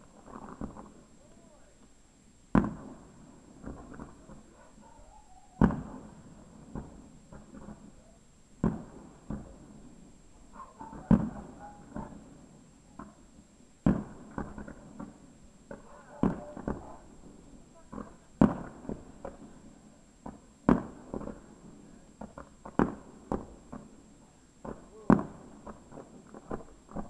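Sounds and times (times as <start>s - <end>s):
firework shells booming: 0.0s - 1.8s, 2.5s - 4.8s, 5.5s - 27.0s
firework pops and crackles: 0.0s - 4.8s, 5.4s - 27.0s.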